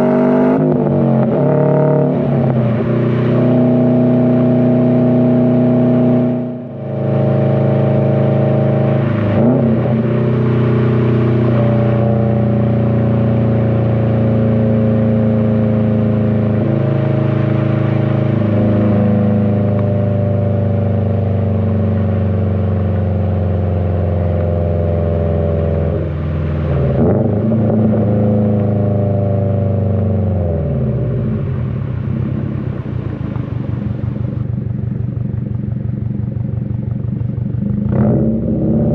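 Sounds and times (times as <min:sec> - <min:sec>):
car exhaust drone: 0:00.0 - 0:38.9.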